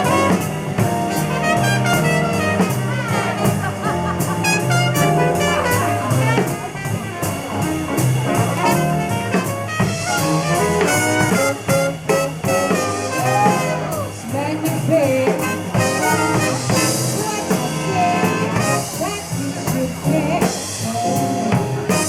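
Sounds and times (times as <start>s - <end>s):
drum kit: 0.0s - 22.0s
swing jazz brass section: 0.0s - 22.0s.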